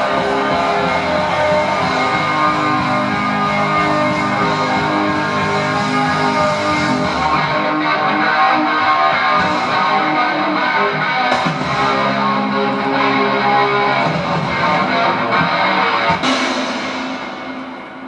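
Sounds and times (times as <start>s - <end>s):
guitars strumming chords: 0.0s - 18.0s.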